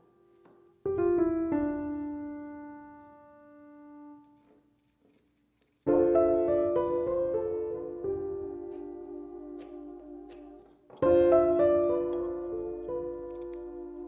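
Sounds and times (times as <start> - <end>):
piano music: 0.0 - 4.5, 5.9 - 14.0.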